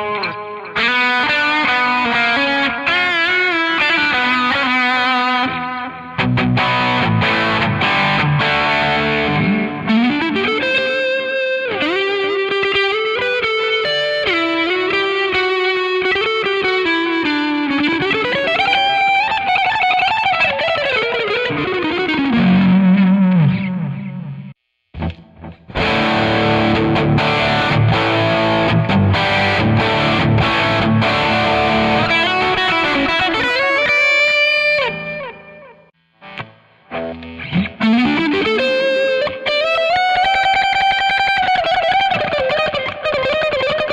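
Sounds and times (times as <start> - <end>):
distorted electric guitar lead: 0.0 - 43.9.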